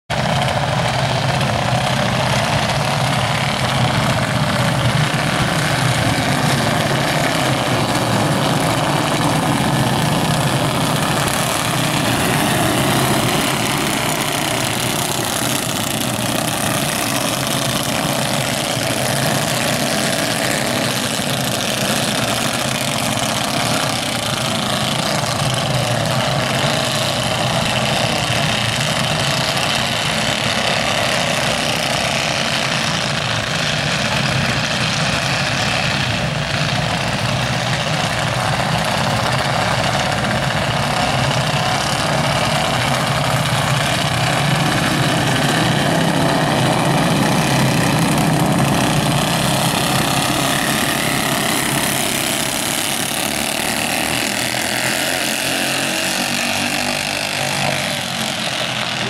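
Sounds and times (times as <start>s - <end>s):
go-kart engines droning: 0.1s - 59.0s.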